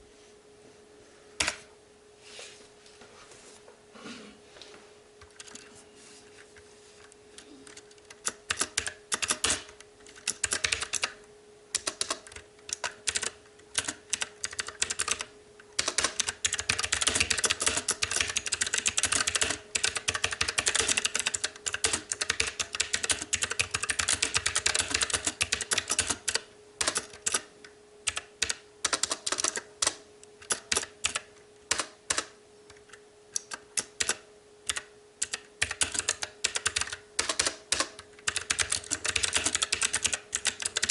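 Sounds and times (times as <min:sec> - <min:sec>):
mechanical keyboard typing: 0:05.2 - 0:05.7, 0:07.6 - 0:40.9.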